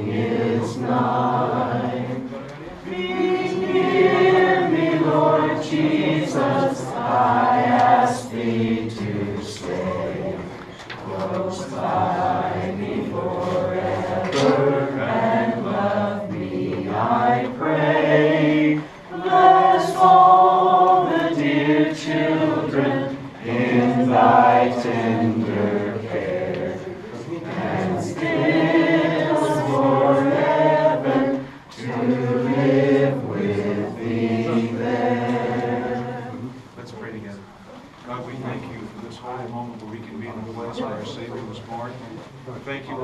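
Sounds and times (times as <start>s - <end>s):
group singing carol unaccompanied: 0.0s - 37.4s.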